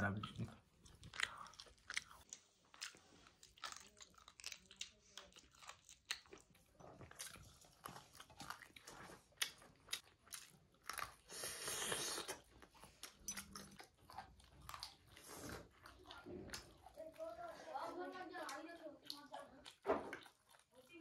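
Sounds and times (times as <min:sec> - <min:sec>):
man chewing with wet clicks: 0:00.0 - 0:21.0.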